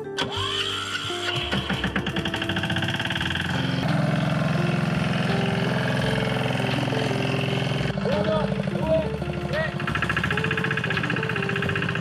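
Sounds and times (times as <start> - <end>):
walking tractor engine: 0.1 - 12.0.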